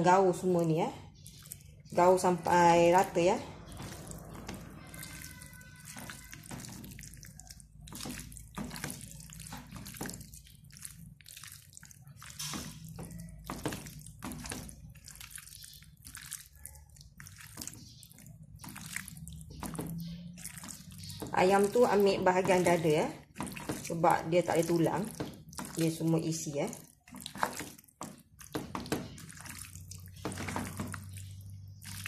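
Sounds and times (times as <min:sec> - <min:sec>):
hand squishing wet chicken: 0:00.0 - 0:32.0.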